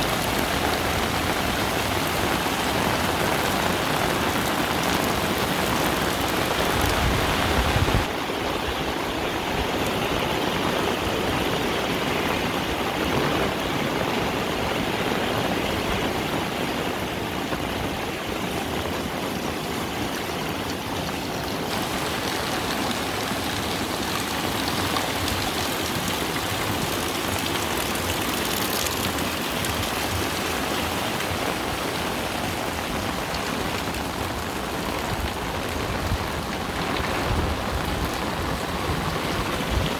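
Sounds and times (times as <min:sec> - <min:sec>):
running water: 0:00.0 - 0:16.6, 0:17.4 - 0:39.9
heavy rain pouring: 0:00.0 - 0:39.9.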